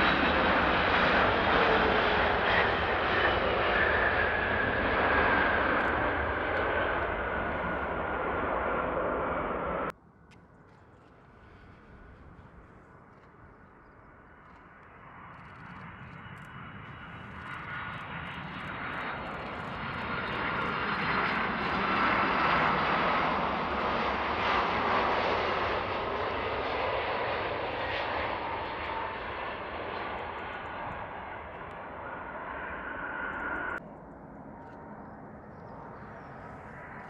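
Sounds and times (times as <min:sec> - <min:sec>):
jet airliner engines: 0:00.0 - 0:37.0.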